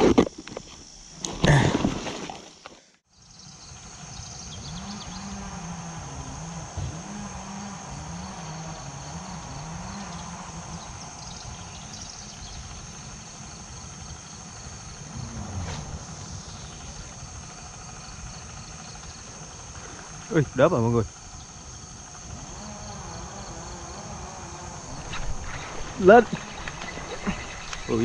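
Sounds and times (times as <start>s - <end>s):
insects chirring: 0.0s - 28.0s
faint low hum: 3.2s - 28.0s.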